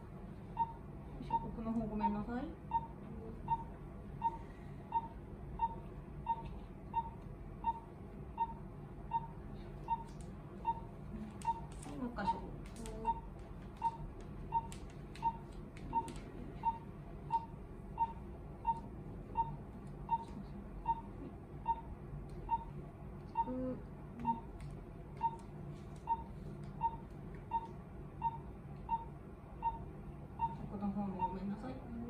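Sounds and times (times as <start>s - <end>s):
patient monitor pulse beep: 0.4s - 24.6s, 25.2s - 31.9s.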